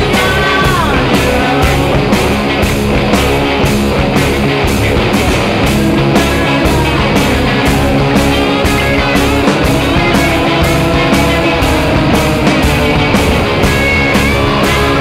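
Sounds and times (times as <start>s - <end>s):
electric guitar: 0.0s - 15.0s
steady drum beat: 0.0s - 15.0s.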